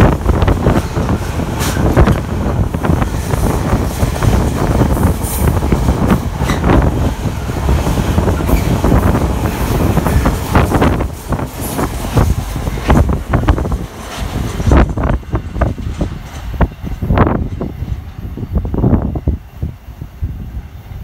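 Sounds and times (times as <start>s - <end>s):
freight train wheel rumble: 0.0s - 21.0s.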